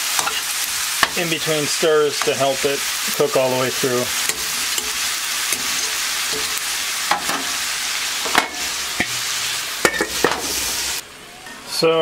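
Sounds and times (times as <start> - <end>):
spatula clinking and scraping pan: 0.0 - 9.2, 9.8 - 10.9
vegetables sizzling in oil: 0.0 - 12.0.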